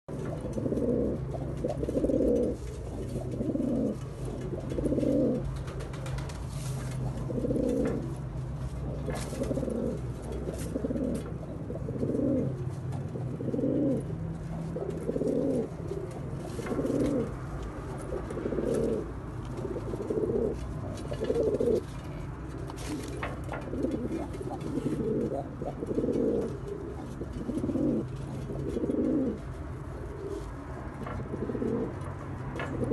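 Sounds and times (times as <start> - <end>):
pigeon cooing: 0.1 - 32.9.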